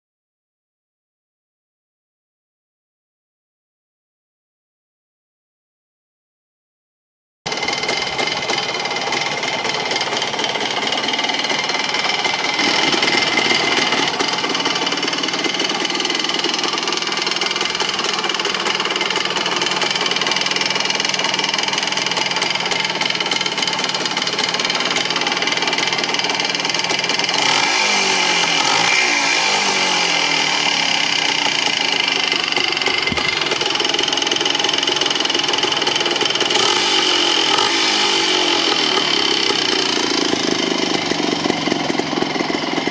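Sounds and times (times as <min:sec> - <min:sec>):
motorcycle engine running: 0:07.5 - 0:42.9.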